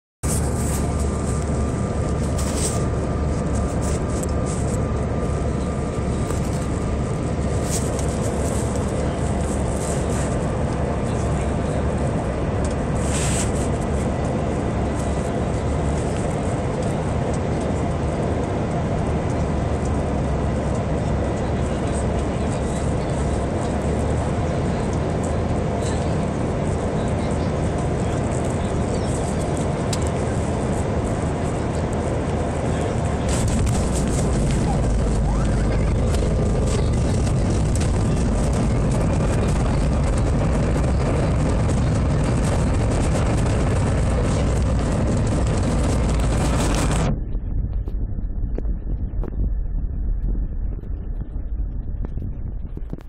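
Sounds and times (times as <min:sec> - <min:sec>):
high engine whine: 0:00.2 - 0:53.0
jet engines and airflow rushing: 0:00.2 - 0:53.0.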